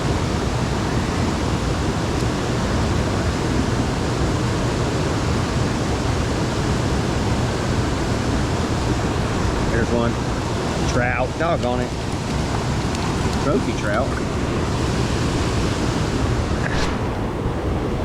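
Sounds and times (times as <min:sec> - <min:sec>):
water roaring from floodgates: 0:00.0 - 0:18.0.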